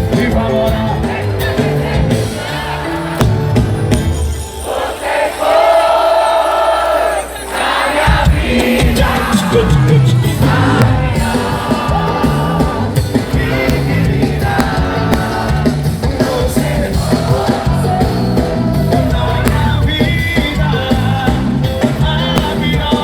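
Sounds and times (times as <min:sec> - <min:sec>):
live band music with singing: 0:00.0 - 0:23.0.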